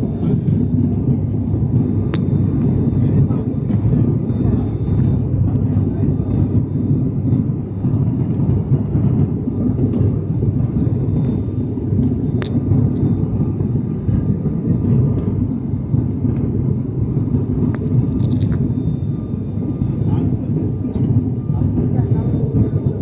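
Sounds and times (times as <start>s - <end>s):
faint steady whine: 0.0s - 23.0s
turboprop engine drone: 0.0s - 23.0s.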